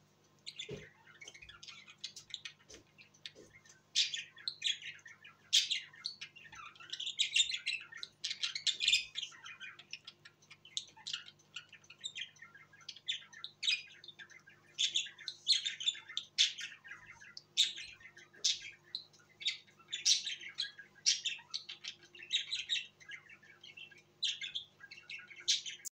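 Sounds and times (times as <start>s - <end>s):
budgerigars chirping: 0.4s - 25.9s.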